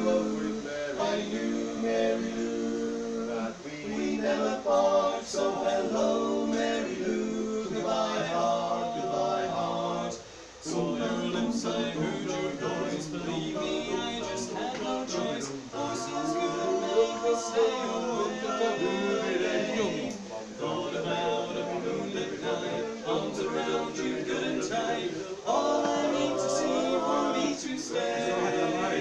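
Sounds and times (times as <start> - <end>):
male vocal quartet singing harmony: 0.0 - 29.0.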